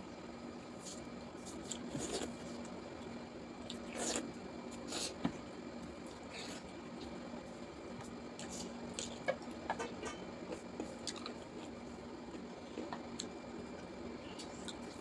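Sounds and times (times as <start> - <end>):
wet chewing and squishing food: 0.7 - 9.7, 10.5 - 15.0.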